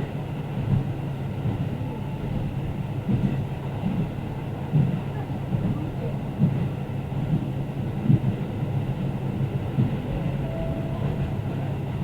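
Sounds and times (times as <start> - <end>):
railcar rumbling along track: 0.0 - 12.0.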